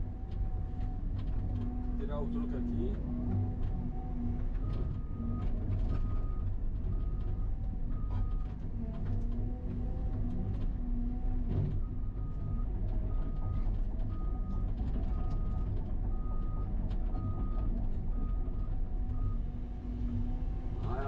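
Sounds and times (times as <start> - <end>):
excavator engine and hydraulic rumble: 0.0 - 21.0.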